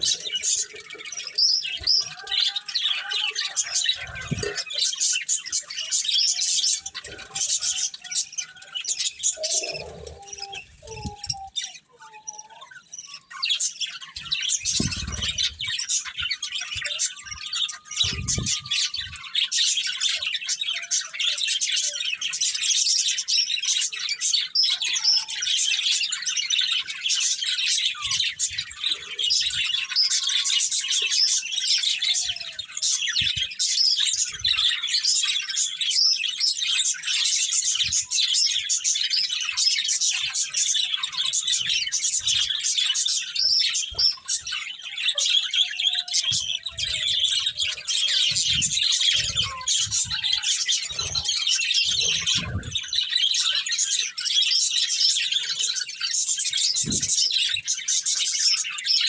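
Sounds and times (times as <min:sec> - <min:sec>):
budgerigars chirping and chattering: 0:00.0 - 0:59.0.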